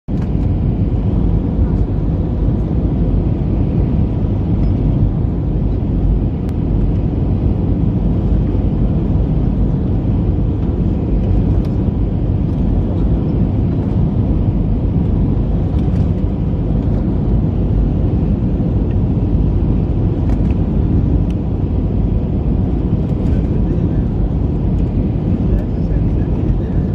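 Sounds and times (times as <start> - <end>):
jet engines rumbling in cabin: 0.1 - 26.9.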